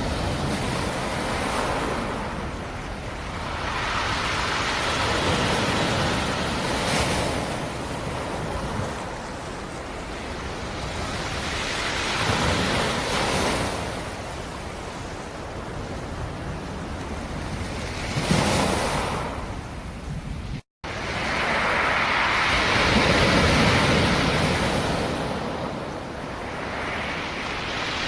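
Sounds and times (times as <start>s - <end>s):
waves breaking on shore: 0.0s - 28.0s.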